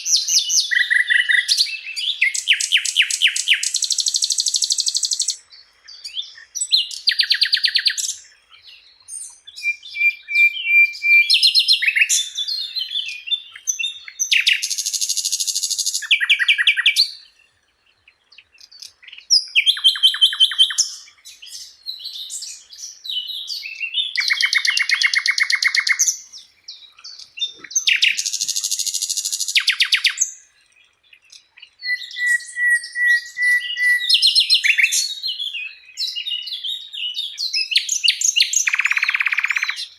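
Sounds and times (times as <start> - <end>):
flycatcher singing: 0.0 - 39.9.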